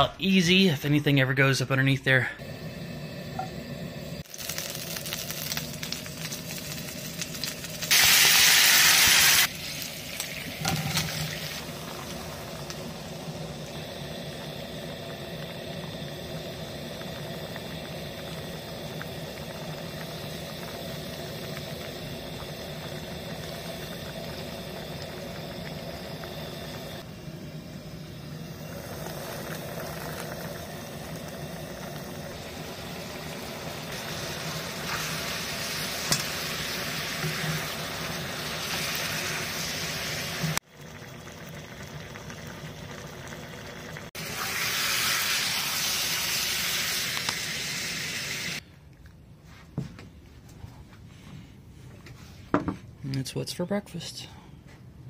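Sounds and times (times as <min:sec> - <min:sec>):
fruit sizzling in a pan: 0:02.4 - 0:48.6.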